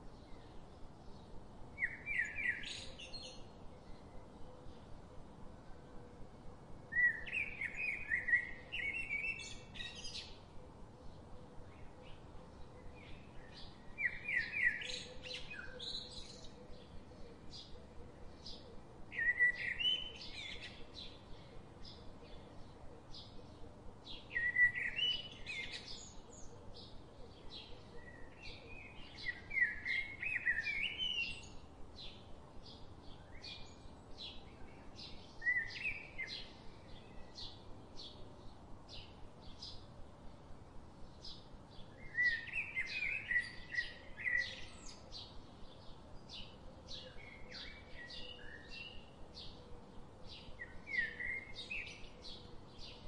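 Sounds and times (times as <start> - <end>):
birds warbling song: 0.0 - 5.4, 6.3 - 53.0.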